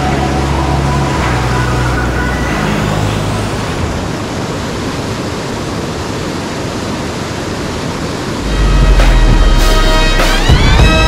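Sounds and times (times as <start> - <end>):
rushing creek water: 0.0 - 11.0.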